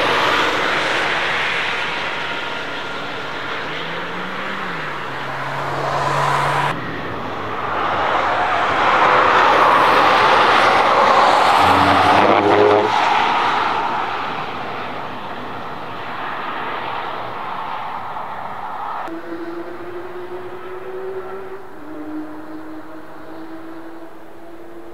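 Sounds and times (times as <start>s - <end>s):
car passing with tyre and wind rush: 0.0s - 24.9s.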